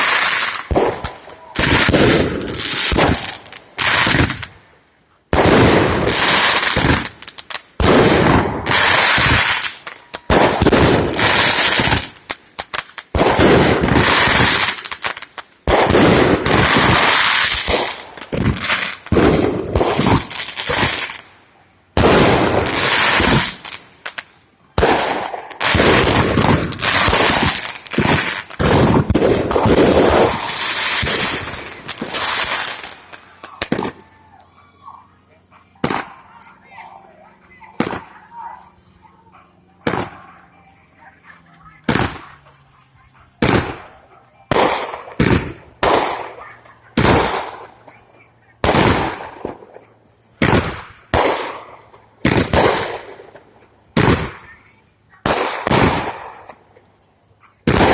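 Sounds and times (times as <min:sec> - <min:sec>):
fireworks bangs and crackles: 0:00.0 - 0:04.6, 0:05.3 - 0:56.9, 0:57.6 - 0:57.9.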